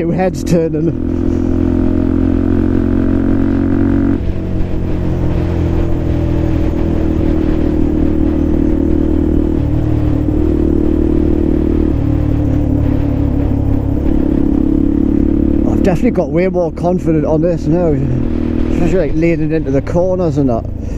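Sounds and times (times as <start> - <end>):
motorcycle engine and exhaust: 0.0 - 20.9.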